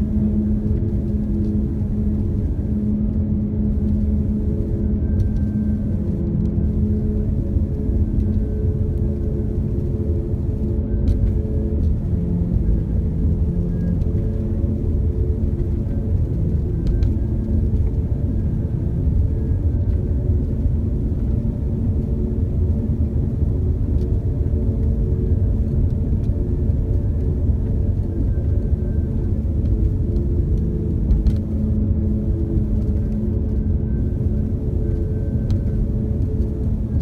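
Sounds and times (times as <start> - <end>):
faint hum: 0.0 - 37.0.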